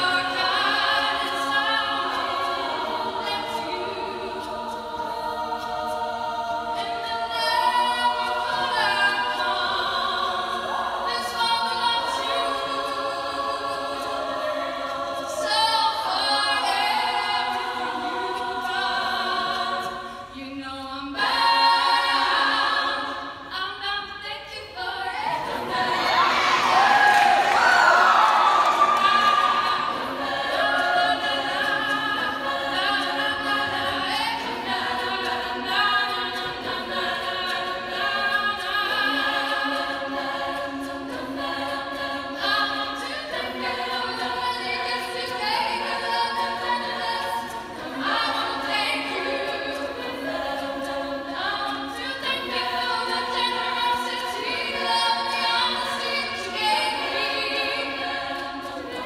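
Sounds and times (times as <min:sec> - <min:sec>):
female choir holding chords: 0:00.0 - 0:24.0, 0:24.8 - 0:59.0.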